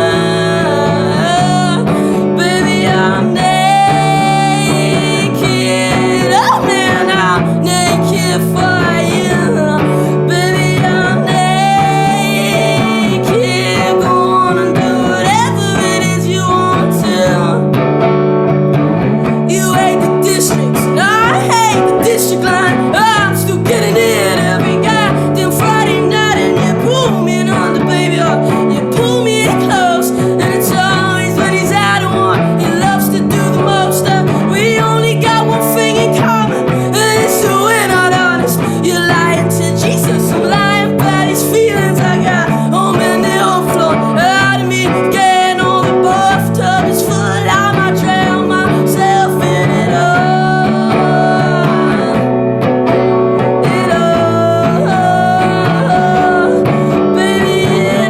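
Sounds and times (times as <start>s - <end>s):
instrumental rock band playing: 0.0s - 58.0s.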